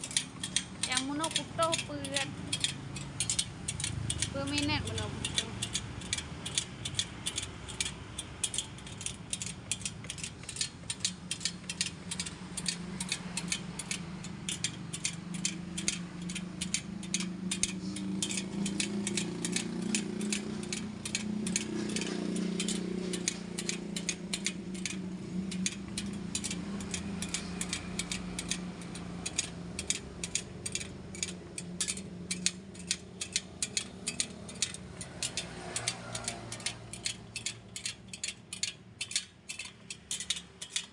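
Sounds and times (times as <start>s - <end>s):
rapid mechanical ticking: 0.0s - 40.9s.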